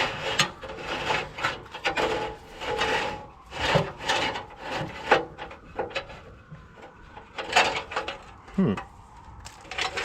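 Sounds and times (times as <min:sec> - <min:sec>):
wiring scraping against metal frame: 0:00.0 - 0:08.5.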